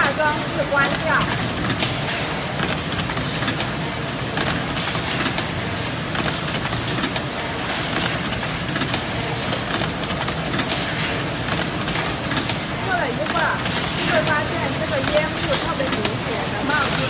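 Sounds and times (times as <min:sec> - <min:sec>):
furnace hissing: 0:00.0 - 0:17.0.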